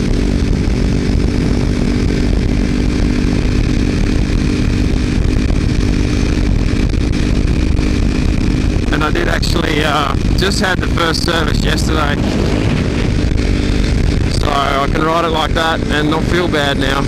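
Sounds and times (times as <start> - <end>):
motorcycle engine buzzy exhaust: 0.0 - 17.0.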